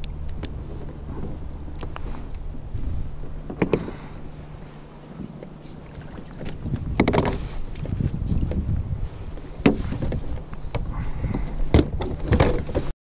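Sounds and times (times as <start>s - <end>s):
wind rumbling on microphone: 0.0s - 12.9s.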